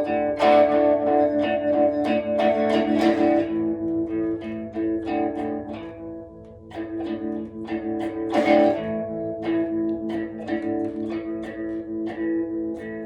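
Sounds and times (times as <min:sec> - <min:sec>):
rock guitar strumming chords: 0:00.0 - 0:13.0.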